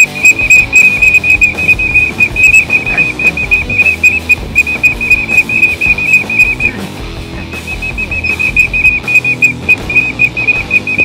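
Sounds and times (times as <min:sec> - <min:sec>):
waterfowl whistle call: 0:00.0 - 0:06.8, 0:07.5 - 0:11.0
background music: 0:00.0 - 0:11.0.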